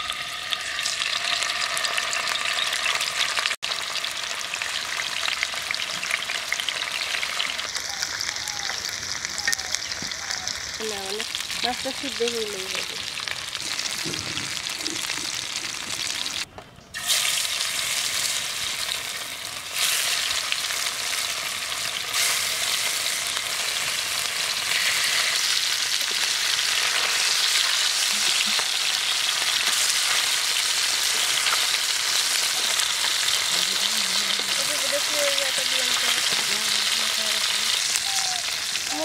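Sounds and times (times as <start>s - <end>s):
fish sizzling in hot oil: 0.0s - 39.0s.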